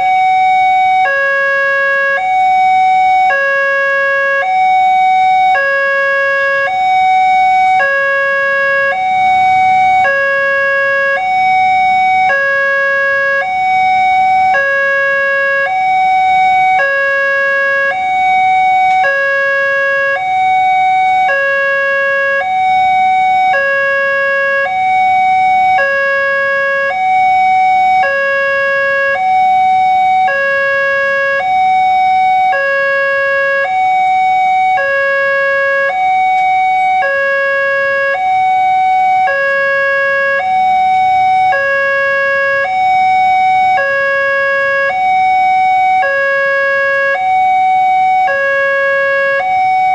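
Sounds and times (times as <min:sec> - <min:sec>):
level crossing two-tone alarm: 0:00.0 - 0:49.9.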